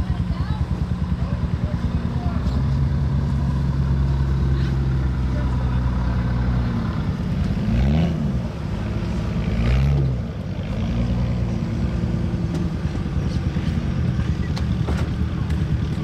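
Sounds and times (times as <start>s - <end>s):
diesel engine revving: 0.0s - 16.0s.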